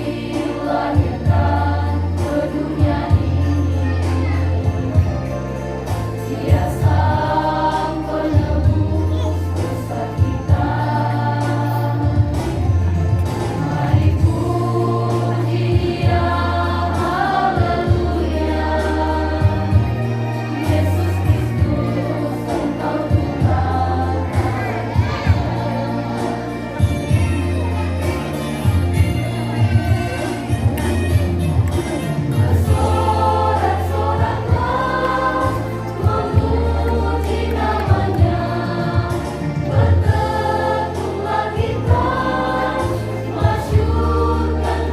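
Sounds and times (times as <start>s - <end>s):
group singing praise song: 0.0s - 27.2s, 29.9s - 44.9s.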